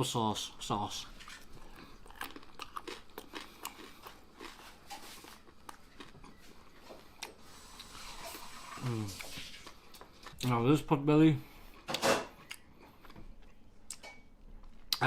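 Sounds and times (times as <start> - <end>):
person chewing crunchy food: 1.1 - 10.6, 11.6 - 15.0.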